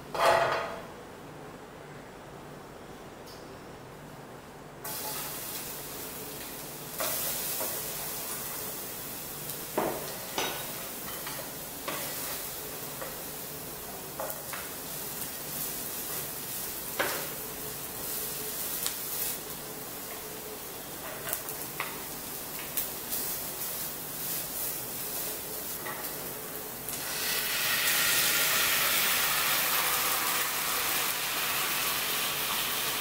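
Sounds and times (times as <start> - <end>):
garlic sizzling in oil: 4.8 - 33.0.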